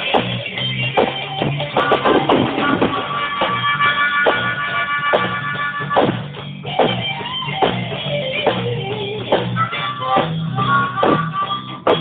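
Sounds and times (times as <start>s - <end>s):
drum kit beat: 0.0s - 12.0s
guitar: 0.0s - 12.0s.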